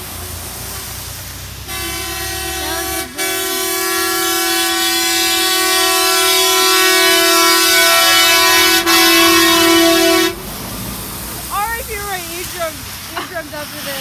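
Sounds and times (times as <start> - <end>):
truck horn blast: 0.0 - 13.8
low engine rumble: 0.0 - 14.0.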